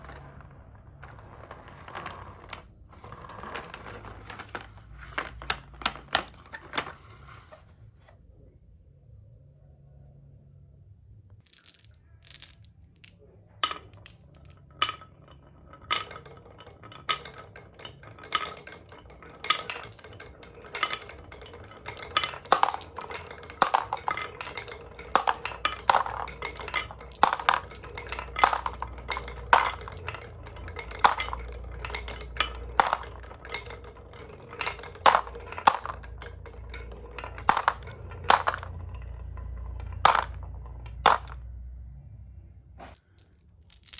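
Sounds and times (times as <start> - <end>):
marbles clacking on track: 0.0 - 7.6, 11.4 - 41.8, 43.0 - 43.9
marbles rolling rumble: 0.0 - 8.1, 11.3 - 43.9.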